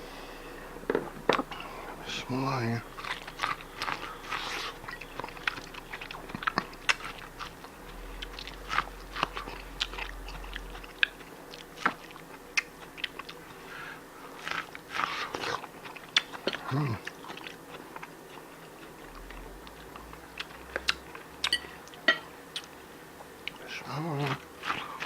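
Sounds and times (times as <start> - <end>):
person chewing crunchy food: 0.8 - 25.0.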